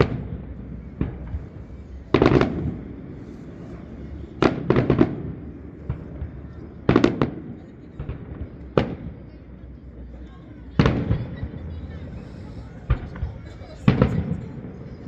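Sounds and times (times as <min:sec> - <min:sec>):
low rumble of echo: 0:00.0 - 0:15.0.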